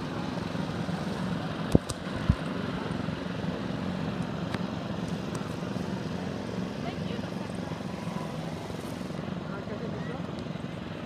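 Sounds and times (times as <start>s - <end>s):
go-kart engines buzzing: 0.0s - 11.0s.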